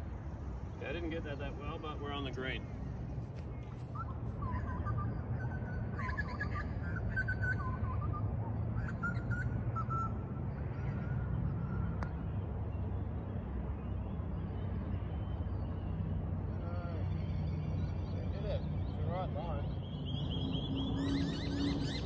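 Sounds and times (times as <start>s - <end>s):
birds whistling calls: 0.4s - 22.0s.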